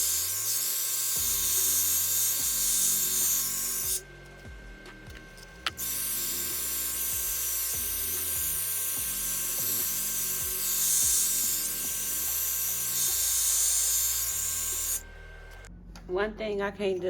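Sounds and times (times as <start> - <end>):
hot air brush blowing: 0.0 - 4.2, 5.1 - 15.6
background music: 0.0 - 17.0.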